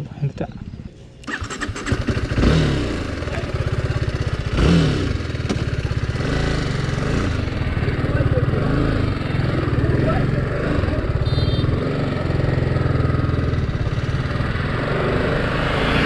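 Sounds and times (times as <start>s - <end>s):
motorcycle engine revving: 0.7s - 16.0s.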